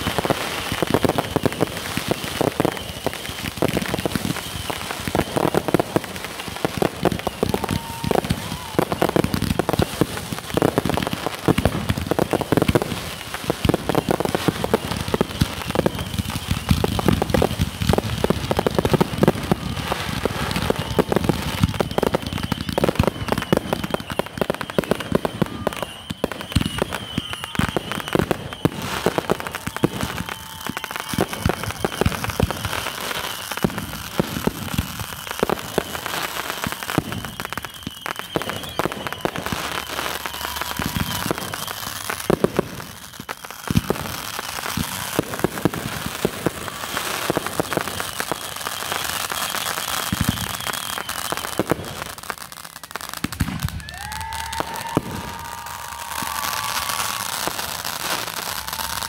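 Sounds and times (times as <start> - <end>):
fireworks crackling and banging: 0.0 - 59.0.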